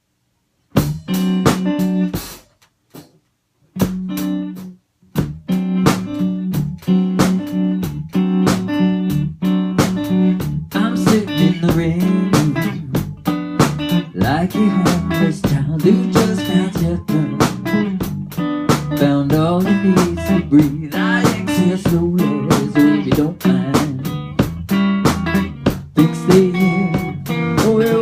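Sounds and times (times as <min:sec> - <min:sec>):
clean electric guitar plucking: 0:03.8 - 0:28.0.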